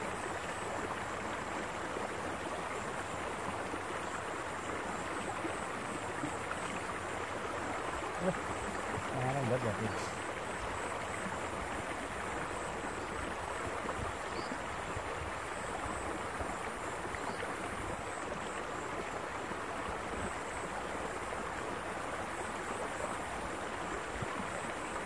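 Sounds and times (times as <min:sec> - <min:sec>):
water rushing in canal: 0:00.0 - 0:25.0.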